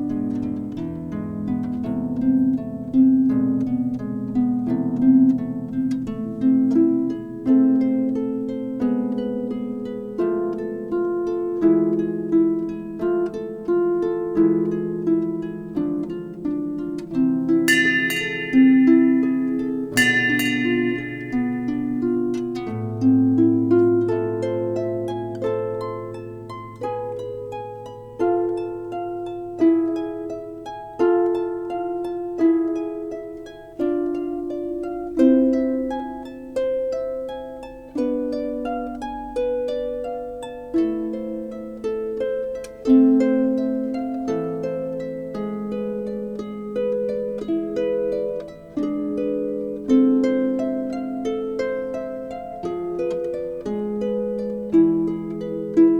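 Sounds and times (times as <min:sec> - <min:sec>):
slow harp music: 0:00.0 - 0:55.9.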